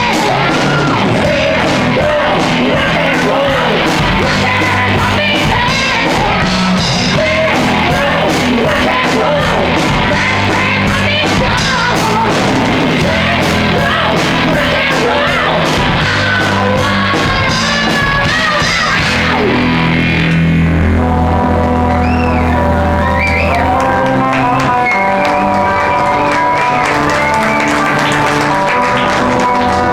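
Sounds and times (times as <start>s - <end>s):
rock band playing: 0.0s - 20.6s, 22.4s - 29.8s
shouted rock vocal: 0.0s - 28.8s.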